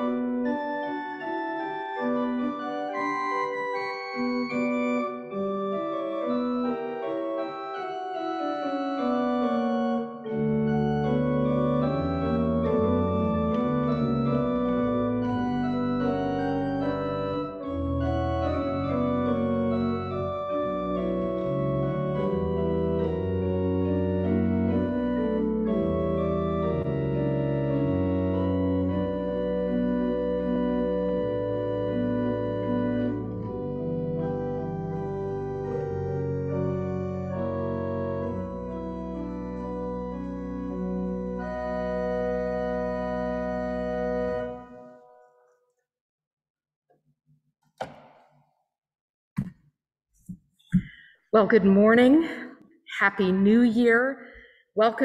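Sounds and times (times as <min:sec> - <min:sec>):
pipe organ playing chords: 0:00.0 - 0:45.2.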